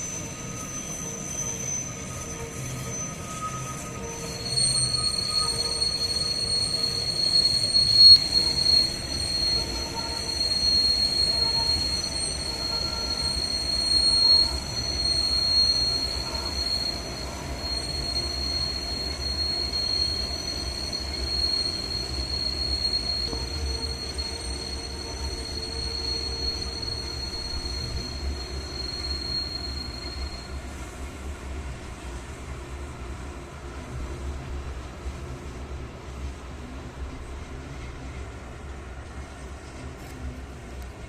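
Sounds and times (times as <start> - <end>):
train rumbling by: 0.0 - 41.0
train wheels squealing: 0.0 - 41.0.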